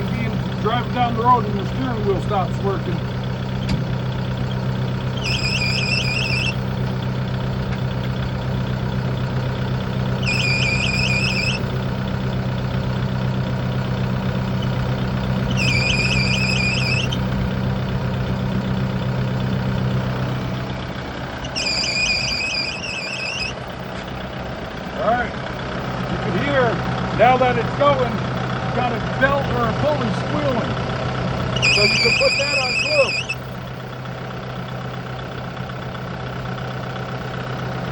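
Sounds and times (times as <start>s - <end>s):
drive belt squealing: 0.0s - 37.9s
tractor engine running: 0.0s - 37.9s.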